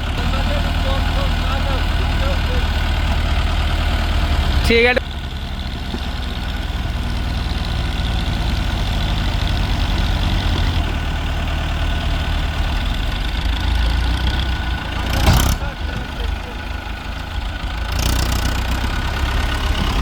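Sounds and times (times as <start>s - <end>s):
diesel engines rumbling: 0.0s - 20.0s.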